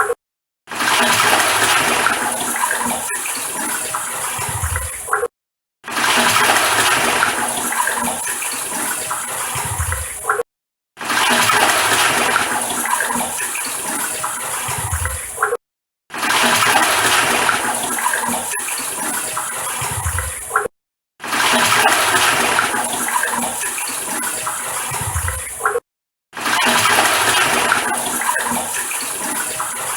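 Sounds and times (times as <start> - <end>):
toilet flushing: 0.7 - 5.1, 5.9 - 10.4, 11.0 - 15.4, 16.1 - 20.6, 21.2 - 25.7, 26.4 - 29.9.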